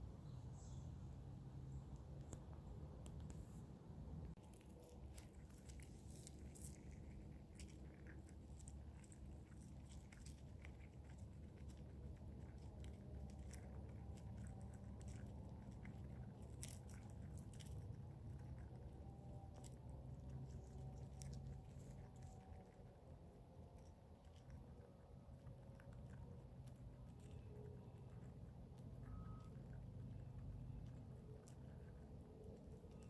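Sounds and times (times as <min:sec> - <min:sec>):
chipmunk chewing seeds: 0:00.2 - 0:33.0.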